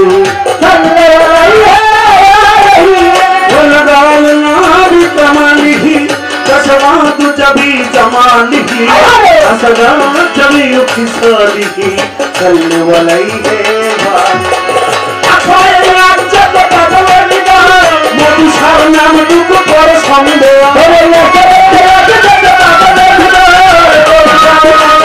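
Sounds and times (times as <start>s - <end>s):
man singing: 0.0s - 25.0s
tabla: 0.0s - 25.0s.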